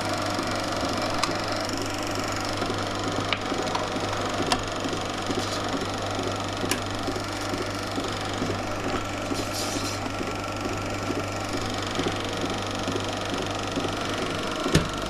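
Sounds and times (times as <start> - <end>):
film projector chattering: 0.0 - 15.0.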